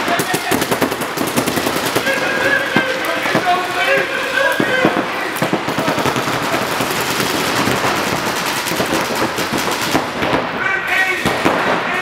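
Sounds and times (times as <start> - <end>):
paintball markers firing rapidly: 0.0 - 10.5.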